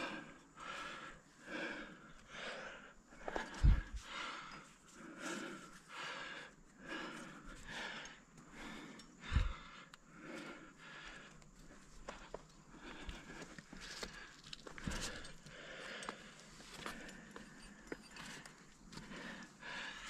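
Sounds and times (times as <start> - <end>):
climber breathing hard: 0.0 - 20.0.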